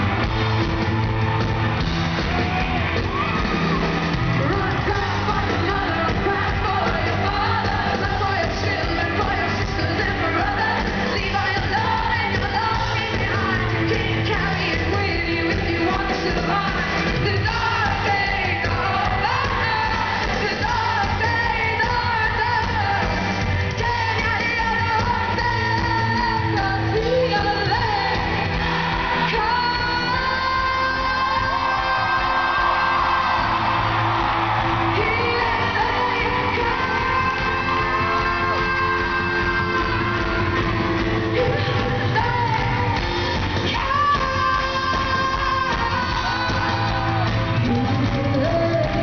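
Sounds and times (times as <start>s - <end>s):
live pop-rock band: 0.0s - 49.0s
woman singing lead: 0.0s - 49.0s.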